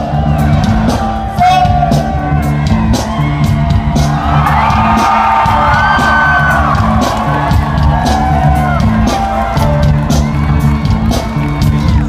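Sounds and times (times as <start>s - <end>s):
crowd shouting and whooping: 0.0s - 12.0s
drum beat: 0.0s - 12.0s
live rock band playing: 0.0s - 12.0s.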